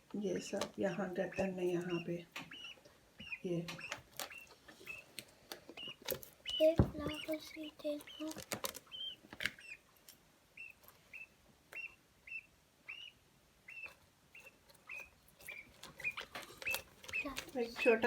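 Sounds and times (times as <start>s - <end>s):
chicks cheeping: 0.1s - 18.0s.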